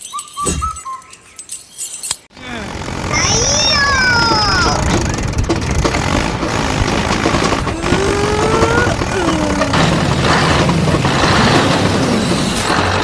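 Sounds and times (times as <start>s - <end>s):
mini tractor engine running: 2.4s - 13.0s.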